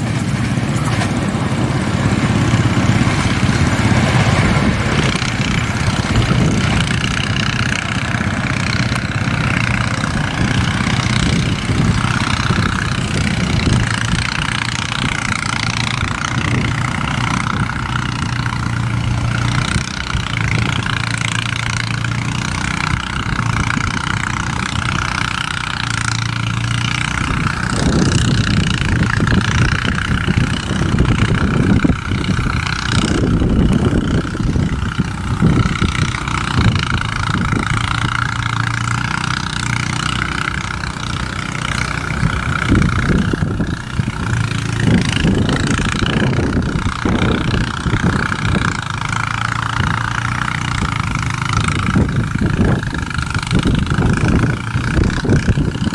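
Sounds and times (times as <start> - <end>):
engine-like drone: 0.0 - 55.9.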